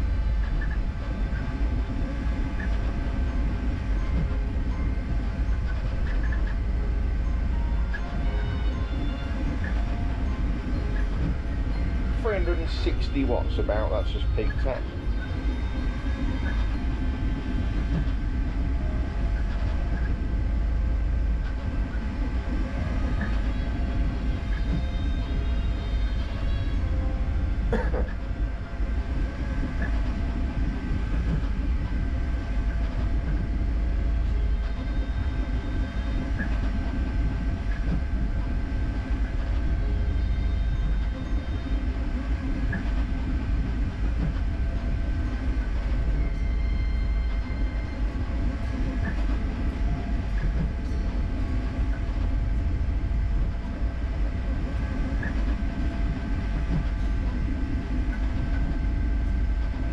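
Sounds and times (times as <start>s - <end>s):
printer low rumble and hum: 0.0s - 59.9s.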